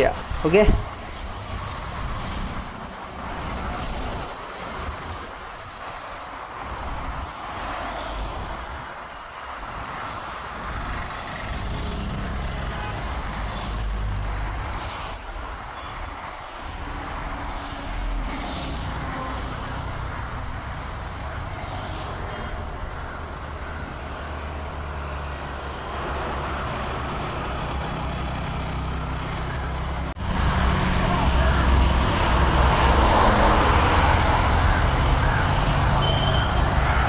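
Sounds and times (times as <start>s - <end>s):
cars and trucks passing: 0.0s - 37.0s.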